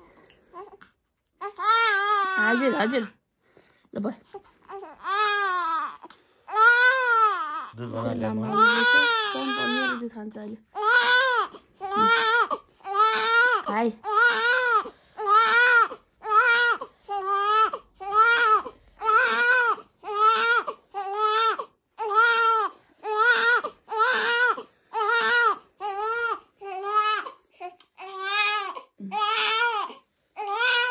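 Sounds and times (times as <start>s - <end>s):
baby crying: 0.5s - 3.2s, 4.3s - 10.0s, 10.7s - 30.9s.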